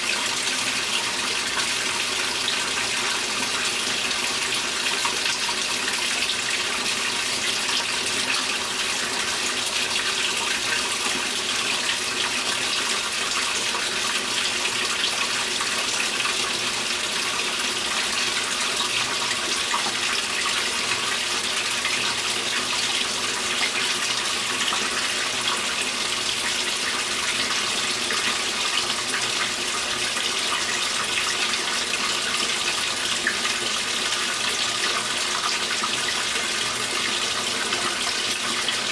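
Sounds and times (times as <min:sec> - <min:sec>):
water pouring into washing machine: 0:00.0 - 0:38.9.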